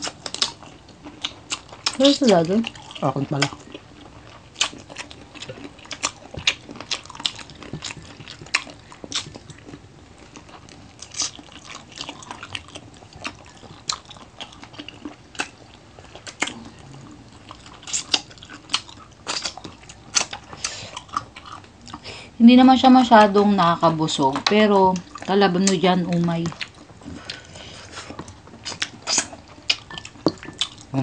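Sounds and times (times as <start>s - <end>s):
people crunching and chewing food: 0.0s - 31.0s.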